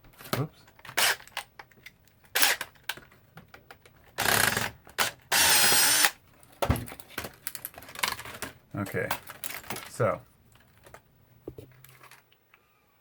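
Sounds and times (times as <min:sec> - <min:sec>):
plastic and metal parts clattering: 0:00.1 - 0:05.3, 0:06.3 - 0:11.0, 0:11.6 - 0:12.3.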